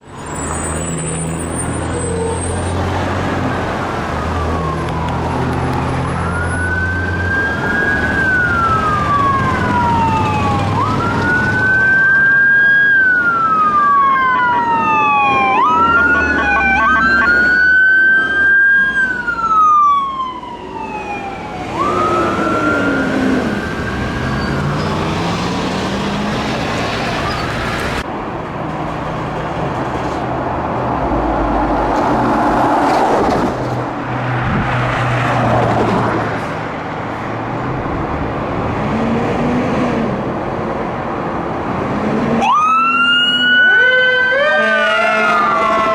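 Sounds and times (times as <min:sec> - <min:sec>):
sirens wailing: 0:00.0 - 0:28.0, 0:30.8 - 0:45.9
truck engines rumbling: 0:00.0 - 0:45.9.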